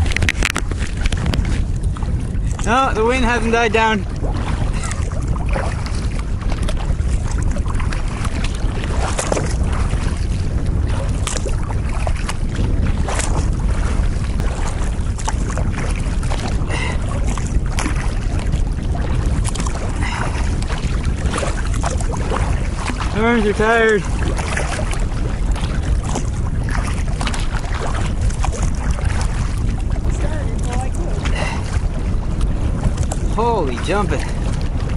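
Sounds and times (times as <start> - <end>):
water splashing against kayak: 0.0 - 34.9
wind buffeting microphone: 0.0 - 34.9.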